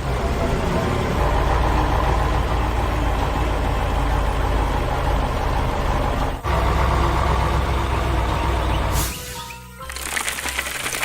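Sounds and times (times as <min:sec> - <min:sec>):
heavy machine engine running: 0:00.0 - 0:09.1.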